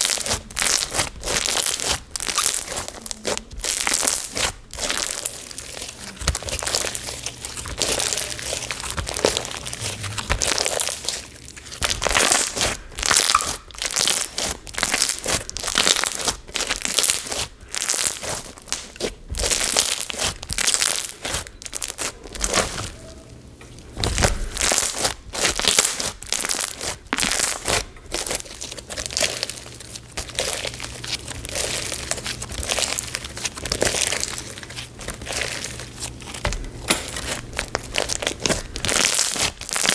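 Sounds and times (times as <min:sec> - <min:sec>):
slime crackling and crunching: 0:00.0 - 0:39.9.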